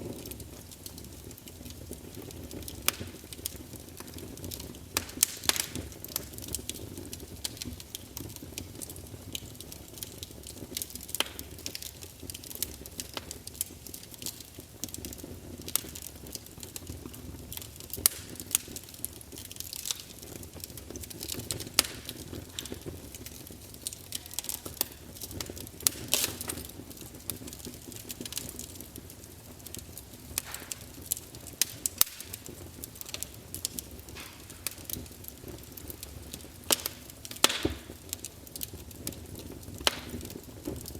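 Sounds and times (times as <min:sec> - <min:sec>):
low rumble of flames: 0:00.0 - 0:40.9
wood crackling and popping: 0:00.0 - 0:40.9.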